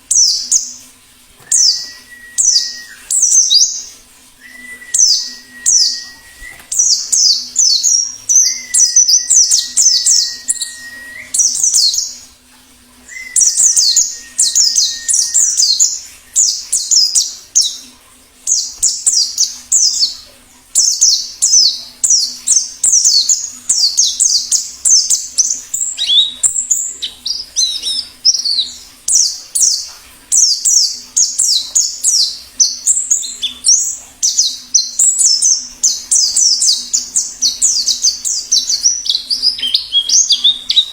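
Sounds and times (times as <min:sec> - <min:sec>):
bird twittering: 0:01.5 - 0:12.3, 0:13.1 - 0:17.8, 0:20.8 - 0:40.9.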